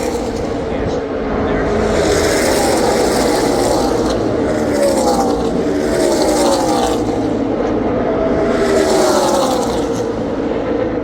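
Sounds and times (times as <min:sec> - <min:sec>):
stock cars racing past: 0:00.0 - 0:11.0.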